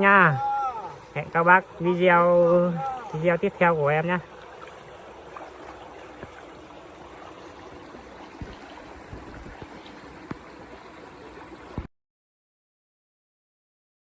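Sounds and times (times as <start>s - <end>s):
running water rushing: 0.0s - 11.9s.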